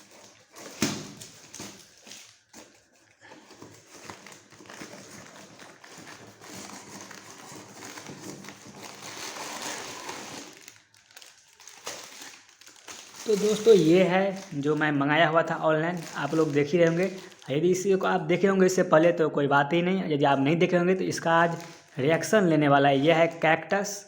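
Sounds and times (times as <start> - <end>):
packaging crinkling and rustling: 0.0 - 18.2, 21.2 - 22.4.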